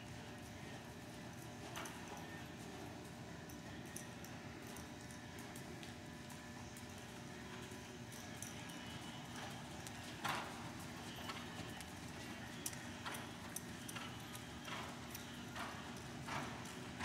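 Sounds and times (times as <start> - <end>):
muffled hoofbeats on soft dirt: 0.0 - 17.0.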